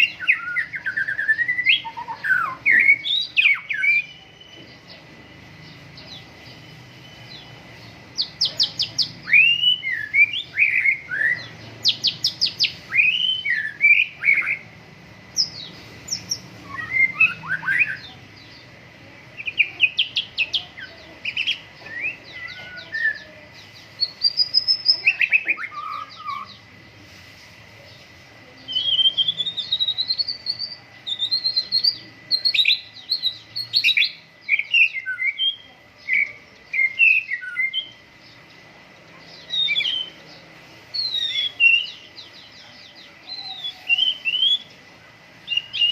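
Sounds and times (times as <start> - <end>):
bird singing whistles and trills: 0.0 - 14.6, 15.4 - 18.6, 19.4 - 23.3, 24.0 - 26.6, 28.7 - 38.0, 39.3 - 40.3, 40.9 - 44.8, 45.4 - 45.9.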